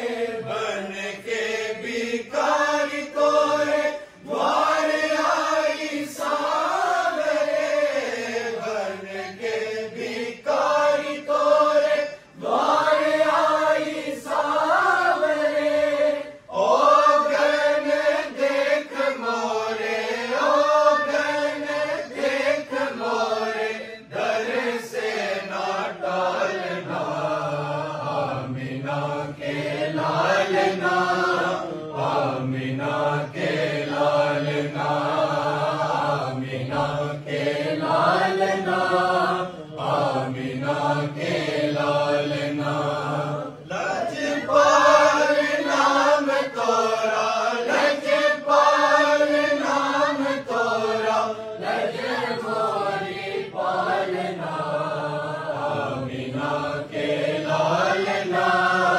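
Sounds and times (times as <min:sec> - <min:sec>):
voices chanting in unison: 0:00.0 - 0:58.9.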